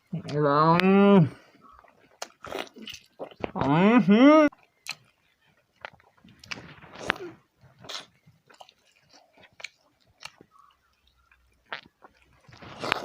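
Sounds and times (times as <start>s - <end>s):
person chewing crunchy food: 0.0s - 3.7s, 4.5s - 13.0s.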